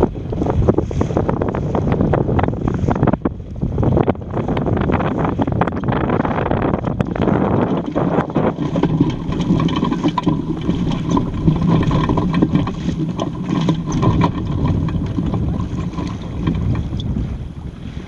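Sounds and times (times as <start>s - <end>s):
water splashing along boat hull: 0.0s - 18.0s
wind on microphone: 0.0s - 18.0s.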